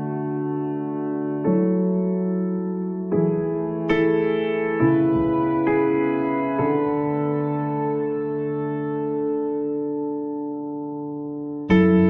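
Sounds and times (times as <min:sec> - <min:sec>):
keyboard chords: 0:00.0 - 0:12.0.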